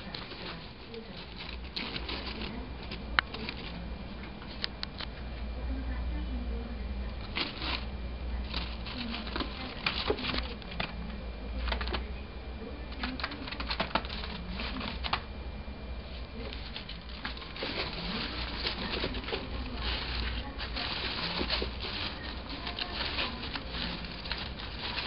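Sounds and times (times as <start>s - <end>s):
plastic leaves rustling: 0.0s - 4.8s, 7.1s - 12.1s, 12.9s - 15.3s, 16.0s - 25.0s
squirrel scrabbling and clicking: 0.0s - 5.2s, 7.1s - 12.1s, 12.9s - 15.3s, 16.1s - 25.0s.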